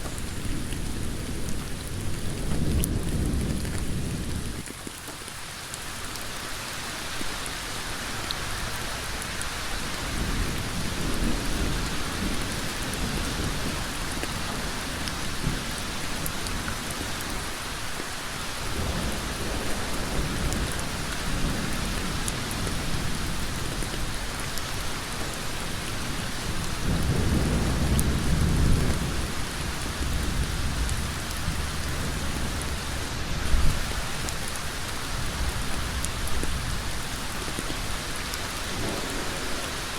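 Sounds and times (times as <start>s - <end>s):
heavy rain on road: 0.0s - 39.9s.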